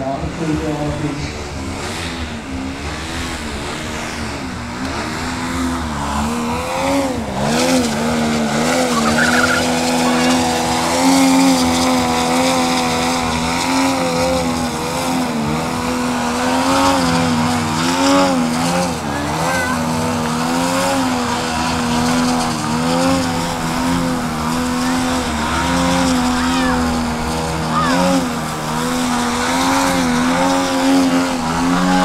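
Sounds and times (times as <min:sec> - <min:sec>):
model plane engine wavering: 0:00.0 - 0:32.0.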